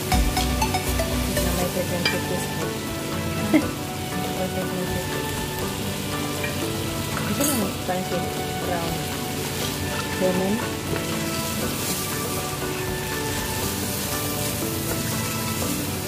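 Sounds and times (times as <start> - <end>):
rice sizzling in a pot: 0.0 - 16.0
wooden spoon stirring and scraping: 1.2 - 16.0.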